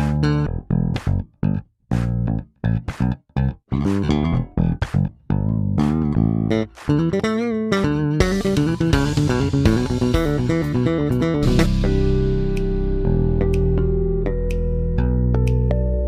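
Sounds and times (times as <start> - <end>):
plucked bass and guitar music: 0.0 - 16.0.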